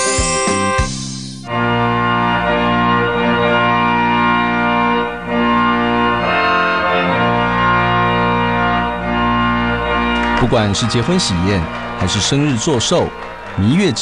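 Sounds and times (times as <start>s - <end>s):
organ playing sustained chords: 0.0s - 14.0s.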